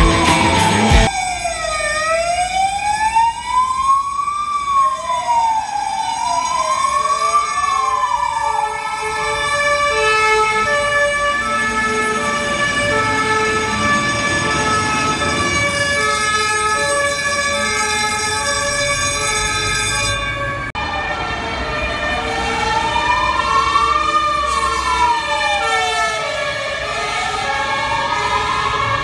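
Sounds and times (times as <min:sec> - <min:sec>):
two-tone siren: 0:00.0 - 0:29.0
wailing siren: 0:00.0 - 0:29.0.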